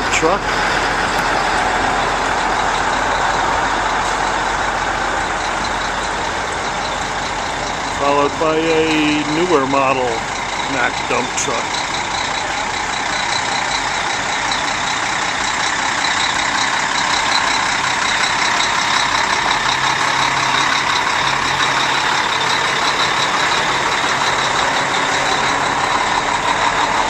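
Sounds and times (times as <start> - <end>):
truck engine driving past: 0.0 - 27.0.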